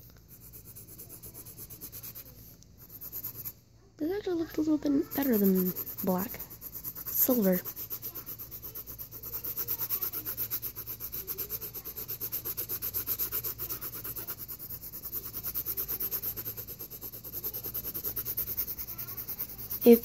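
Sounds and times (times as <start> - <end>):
pencil shading on paper: 0.0 - 20.0.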